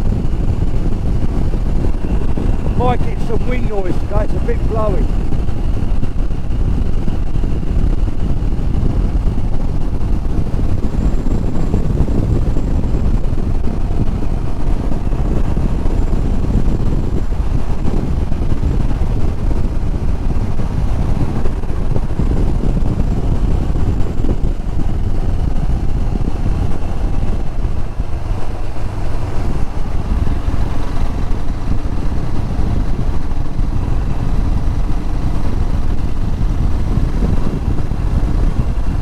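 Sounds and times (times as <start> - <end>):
motorcycle engine running: 0.0 - 3.4, 4.2 - 39.0
wind buffeting microphone: 0.0 - 39.0.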